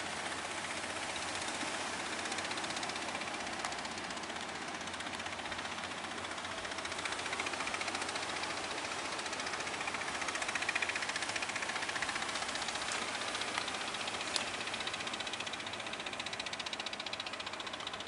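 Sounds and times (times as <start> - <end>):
boat engine knocking: 0.0 - 18.0.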